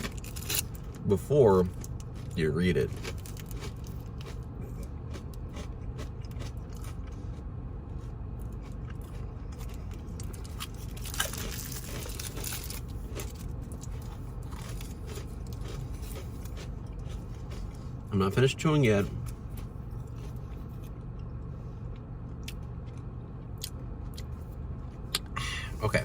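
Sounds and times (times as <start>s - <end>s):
crunching and chewing cookie: 0.0s - 26.0s
low steady hum: 0.0s - 26.0s.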